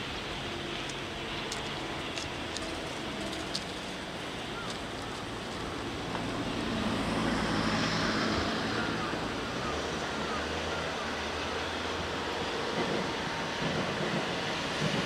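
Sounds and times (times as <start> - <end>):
distant traffic: 0.0 - 15.0
vehicle approaching: 0.0 - 15.0.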